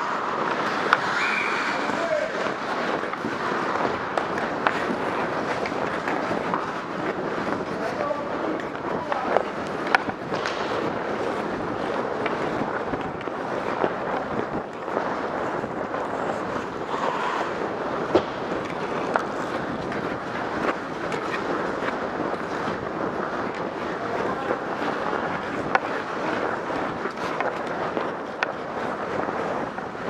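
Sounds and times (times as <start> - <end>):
skate blades scraping ice: 0.0 - 30.0
wind on microphone: 0.0 - 30.0.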